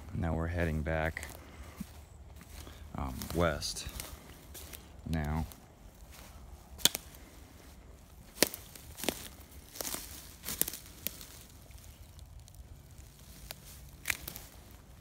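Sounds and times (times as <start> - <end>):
footsteps crackling through undergrowth: 0.0 - 15.0.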